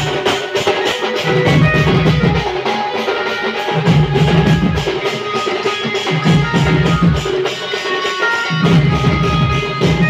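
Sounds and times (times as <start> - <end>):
band melody: 0.0 - 10.0
drums and percussion beating: 0.0 - 10.0.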